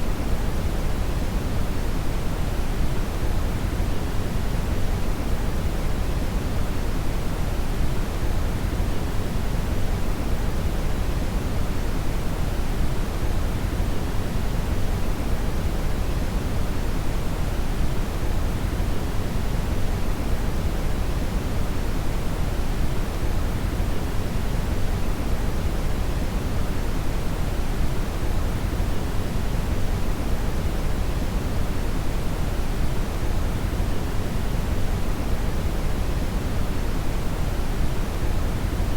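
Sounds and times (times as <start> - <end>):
brown noise hiss: 0.0 - 38.9.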